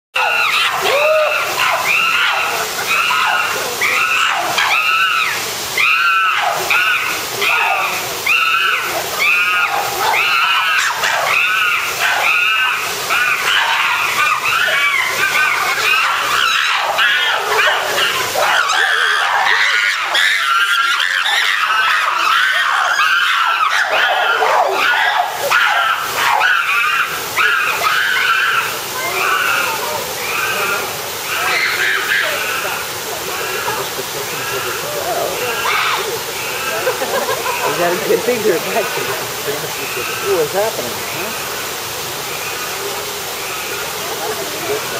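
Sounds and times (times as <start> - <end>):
chimpanzees screaming: 0.2 - 44.9.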